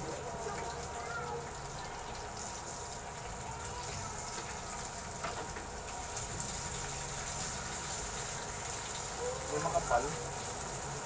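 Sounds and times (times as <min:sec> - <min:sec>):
pork belly sizzling on grill: 0:00.0 - 0:11.0.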